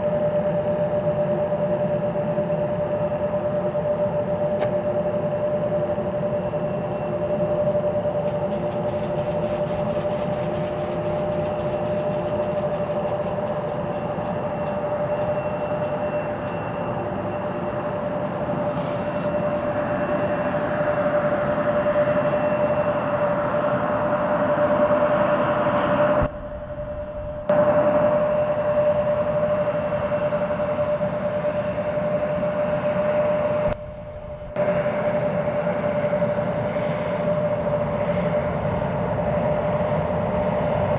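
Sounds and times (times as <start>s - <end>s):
jet engines whining and roaring: 0.0s - 40.9s.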